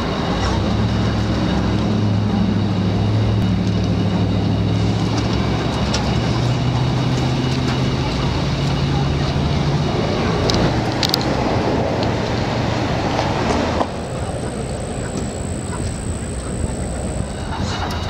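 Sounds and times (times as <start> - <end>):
road traffic noise: 0.0 - 18.0
vehicle engine droning: 0.0 - 18.0.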